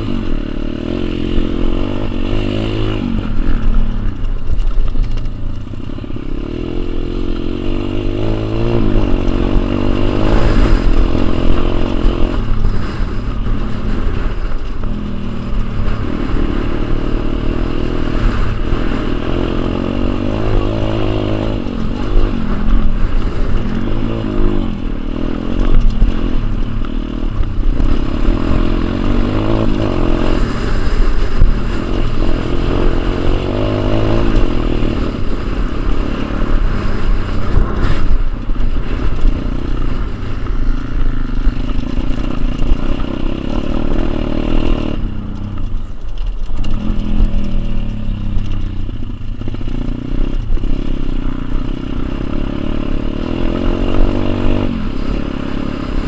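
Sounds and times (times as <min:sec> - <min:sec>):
bike rattling: 0:00.0 - 0:56.0
motorbike engine revving: 0:00.0 - 0:56.0
wind rumbling on microphone: 0:00.0 - 0:56.0.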